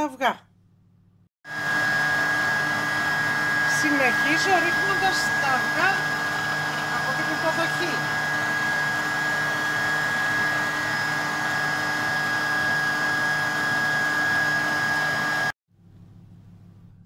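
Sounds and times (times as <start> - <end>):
stand mixer motor whining: 1.5 - 15.6.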